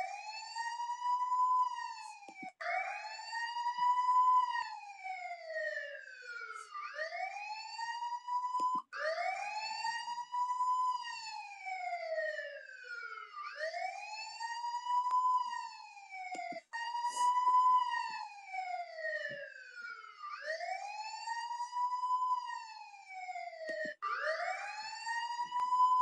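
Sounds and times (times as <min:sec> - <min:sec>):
police siren wailing: 0:00.0 - 0:26.0.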